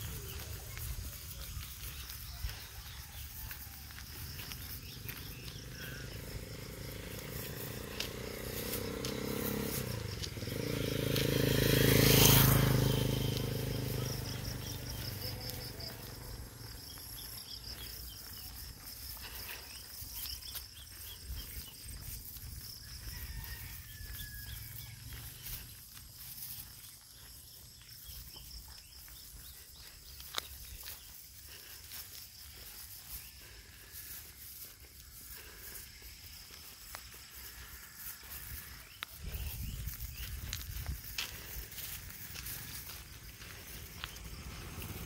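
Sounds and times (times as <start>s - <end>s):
insects chirping: 0.0s - 45.0s
motorcycle passing by: 0.0s - 45.0s.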